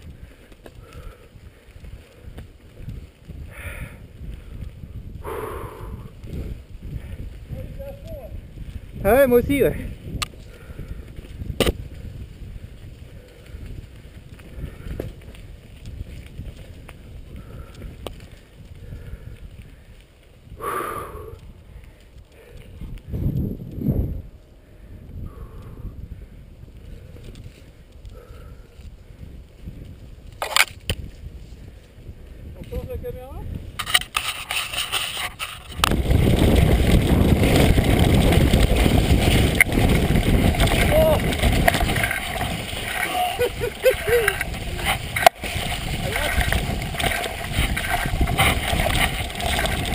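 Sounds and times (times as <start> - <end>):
bike tyres rumbling on dirt: 0.0 - 49.9
wind on microphone: 0.0 - 49.9.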